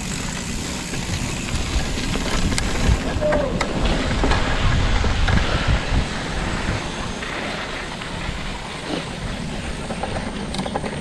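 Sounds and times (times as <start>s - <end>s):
bike rolling on dirt trail: 0.0s - 11.0s
wind buffeting microphone: 0.0s - 11.0s.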